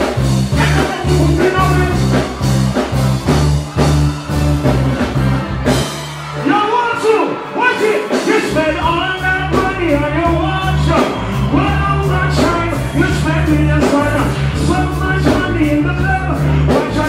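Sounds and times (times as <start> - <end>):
heavy bass line: 0.0 - 6.8, 8.1 - 17.0.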